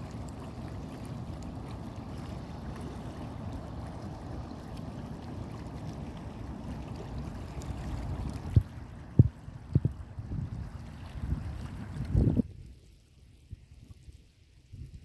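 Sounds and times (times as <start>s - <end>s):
water lapping at rocky shore: 0.0s - 15.0s
wind rumble on microphone: 0.0s - 15.0s.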